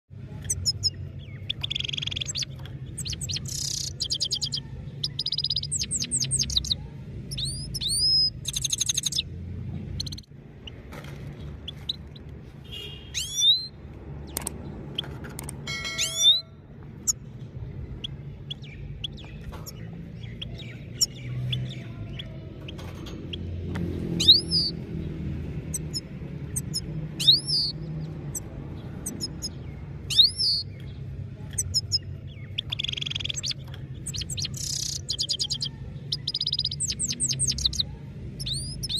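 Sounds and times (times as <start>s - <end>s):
finch singing trills: 0.4s - 10.8s, 12.8s - 14.4s, 17.9s - 38.9s.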